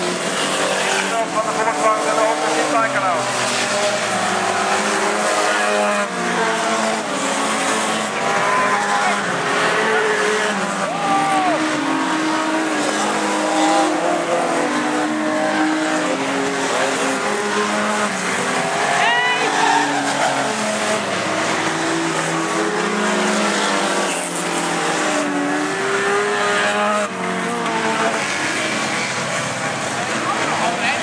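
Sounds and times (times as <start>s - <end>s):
racing car engines revving: 0.0s - 31.0s.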